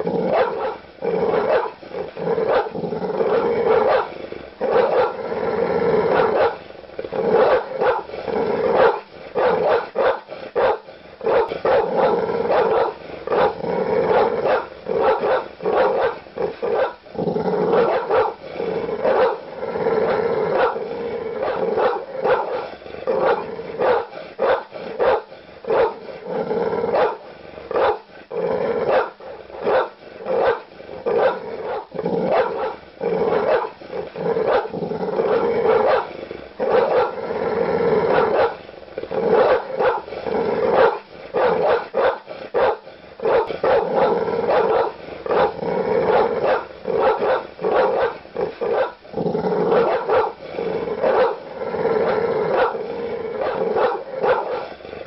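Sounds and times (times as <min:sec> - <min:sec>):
large dog barking deeply: 0:00.0 - 0:55.0.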